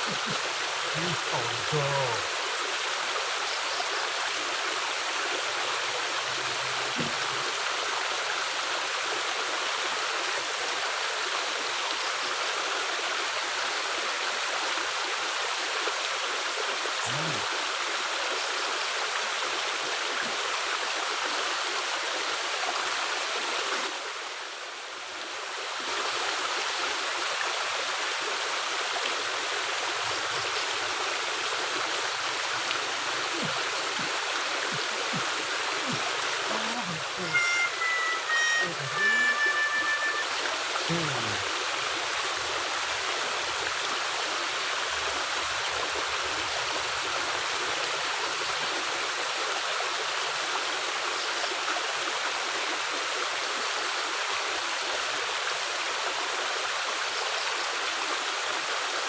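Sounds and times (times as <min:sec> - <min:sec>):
water rushing through a culvert: 0:00.0 - 0:59.0.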